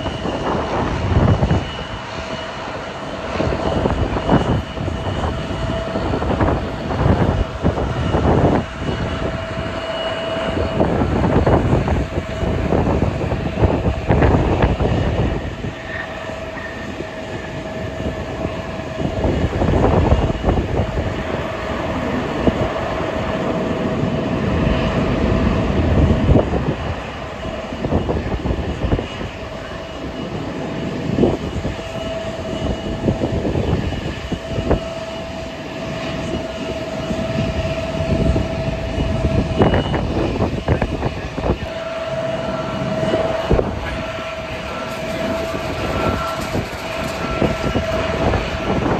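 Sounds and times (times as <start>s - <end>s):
jet engines whining: 0.0s - 48.9s
wind buffeting microphone: 0.0s - 48.9s.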